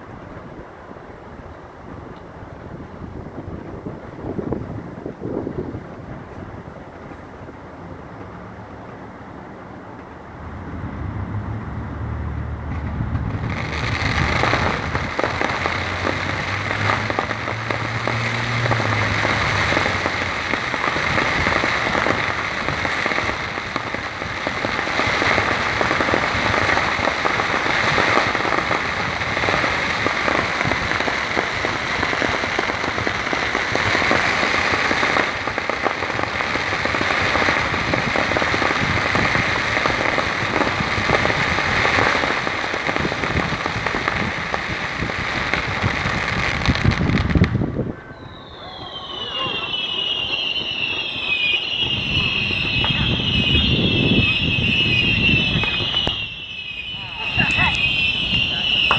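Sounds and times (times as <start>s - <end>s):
fireworks crackling: 0.0s - 58.9s.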